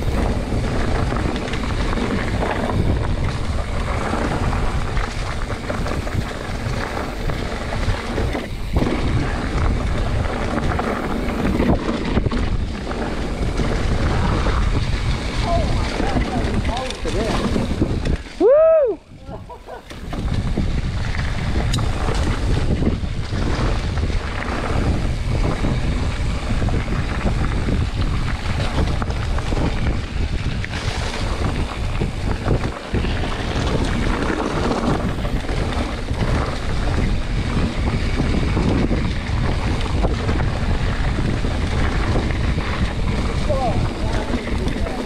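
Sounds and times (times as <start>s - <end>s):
bike knocking over bumps: 0.0s - 18.6s, 19.8s - 45.0s
bike tyre noise on dirt: 0.0s - 45.0s
wind on microphone: 0.0s - 45.0s.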